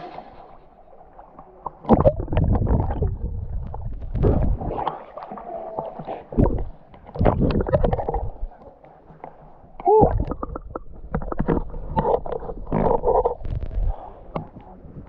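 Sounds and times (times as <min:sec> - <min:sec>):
muffled water sloshing: 0:00.0 - 0:15.0.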